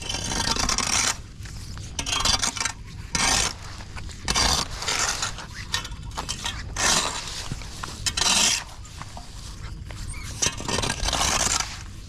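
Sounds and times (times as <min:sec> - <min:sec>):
tool scraping debris: 0:00.0 - 0:11.9.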